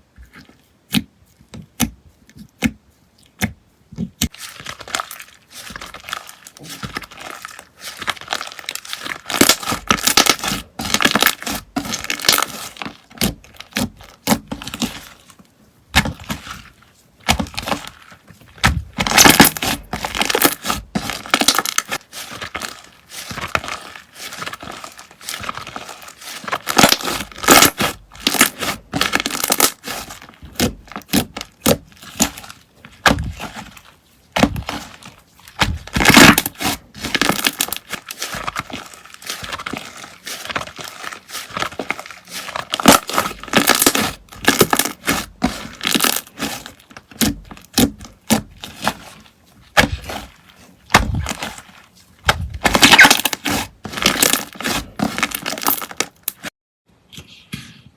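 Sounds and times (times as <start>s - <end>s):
slime popping and crackling: 4.2s - 56.5s.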